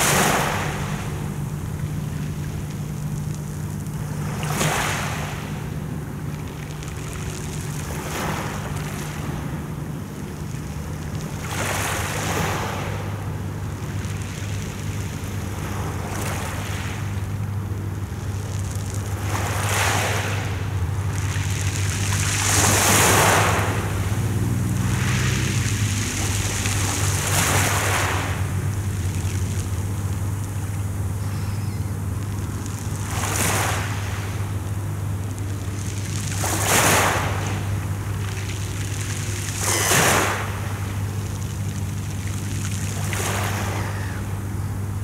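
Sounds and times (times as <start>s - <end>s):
waves washing over pebbles: 0.0s - 9.5s, 10.6s - 17.2s, 18.0s - 30.8s, 32.0s - 44.5s
steady low hum: 0.0s - 45.0s.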